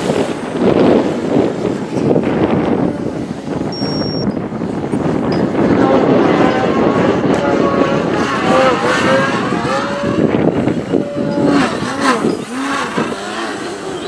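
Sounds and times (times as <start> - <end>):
wind buffeting microphone: 0.0 - 14.0
model plane electric motor whine: 1.9 - 14.0.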